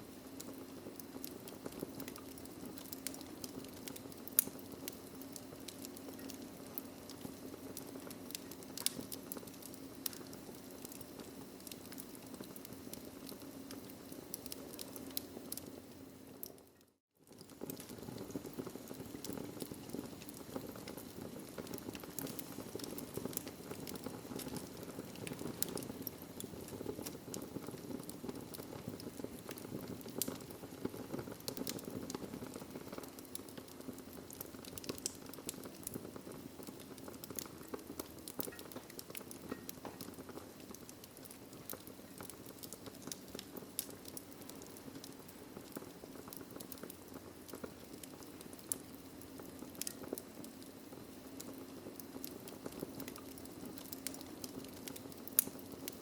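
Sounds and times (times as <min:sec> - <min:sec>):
fire crackles and pops: 0:00.0 - 0:56.0
low roar of flames: 0:00.1 - 0:16.6, 0:17.2 - 0:56.0.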